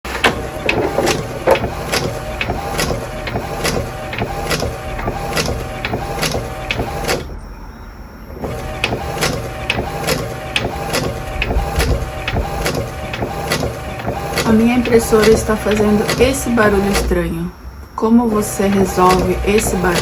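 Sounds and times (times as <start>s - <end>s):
printer clicking: 0.0s - 7.4s, 8.3s - 17.3s, 18.3s - 20.0s
printer motor whine: 0.0s - 20.0s.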